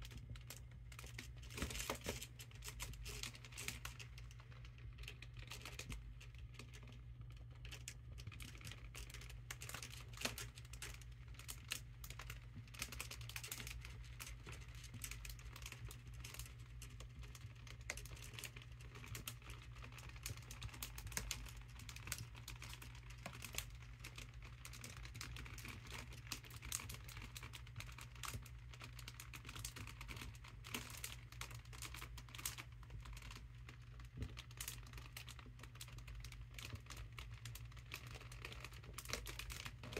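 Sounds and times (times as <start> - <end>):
foil balloon crinkling: 0.0 - 39.9.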